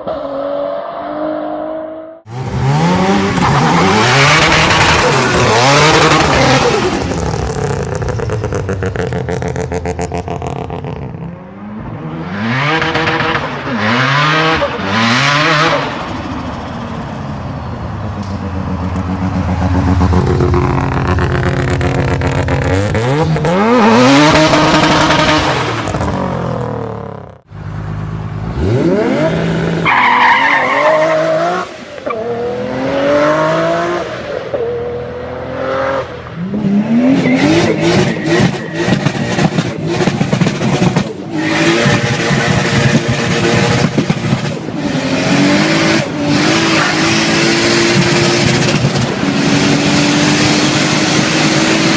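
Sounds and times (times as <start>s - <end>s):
turbocharged car engines revving: 0.0s - 51.9s.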